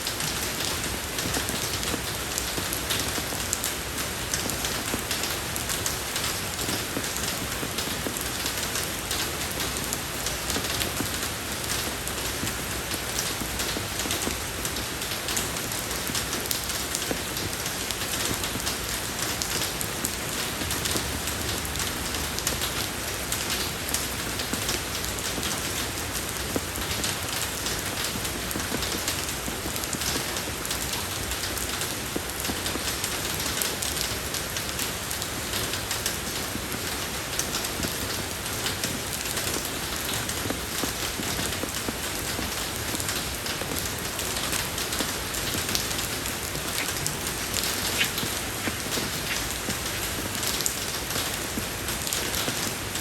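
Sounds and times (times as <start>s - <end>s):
rain falling on a road: 0.0s - 53.0s.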